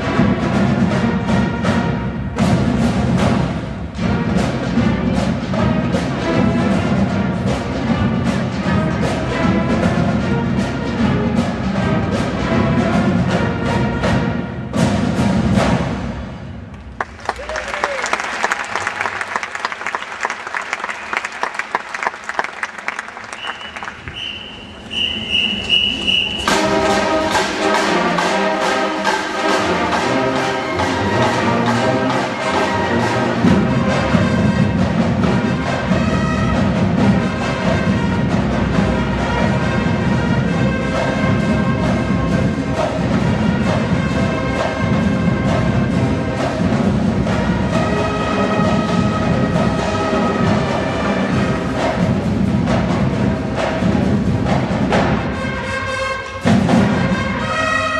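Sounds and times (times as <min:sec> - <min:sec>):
marching band playing: 0:00.0 - 0:57.9.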